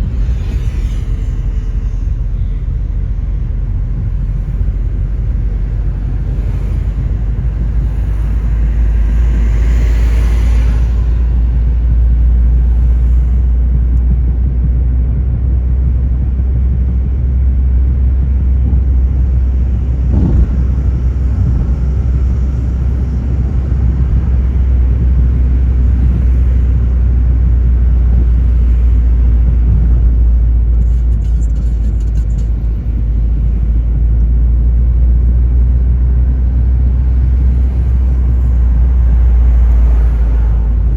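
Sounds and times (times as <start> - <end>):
car engine rumbling: 0.0 - 40.9
tyres on road: 0.0 - 40.9.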